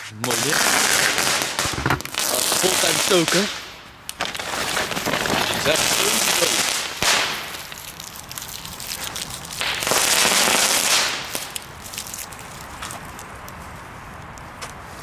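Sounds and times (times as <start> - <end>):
fireworks crackling: 0.0 - 13.2.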